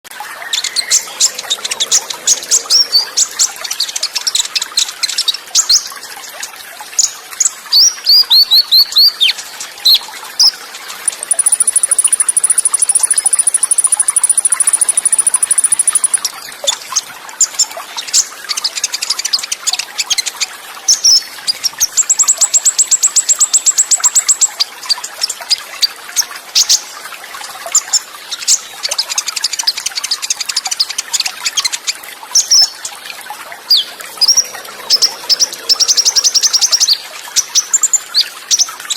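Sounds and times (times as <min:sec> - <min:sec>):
flowing water: 0:00.0 - 0:38.9
bird trills and chirps: 0:00.1 - 0:26.9, 0:27.7 - 0:38.9.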